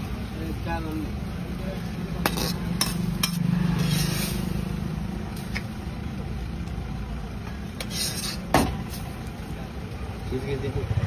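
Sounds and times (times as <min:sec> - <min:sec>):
low mechanical hum: 0:00.0 - 0:10.3.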